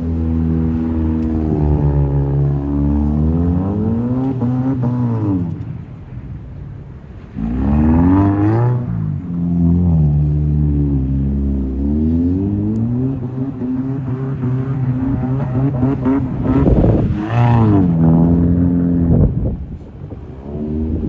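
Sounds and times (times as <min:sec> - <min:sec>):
car engine revving: 0:00.0 - 0:05.7, 0:07.4 - 0:19.3.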